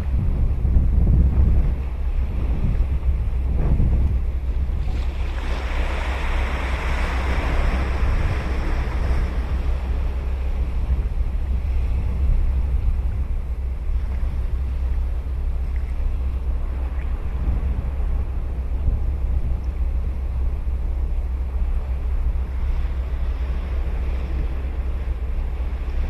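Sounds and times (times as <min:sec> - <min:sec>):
ocean wave breaking: 0:00.0 - 0:26.0
wind rumble on microphone: 0:00.0 - 0:26.0.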